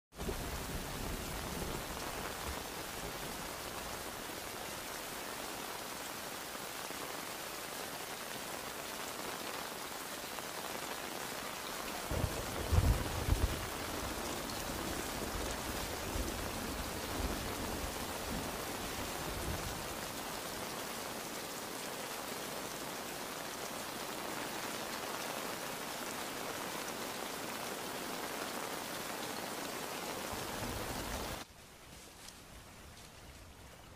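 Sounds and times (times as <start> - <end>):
heavy rain pouring: 0.1 - 31.5.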